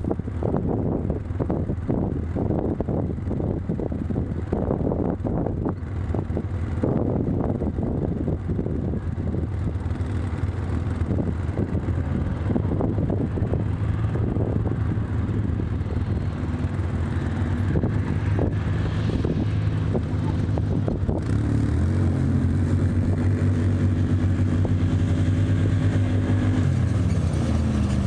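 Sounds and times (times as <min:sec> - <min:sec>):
vehicle engine hum: 0:00.0 - 0:28.0
wind buffeting microphone: 0:00.0 - 0:28.0.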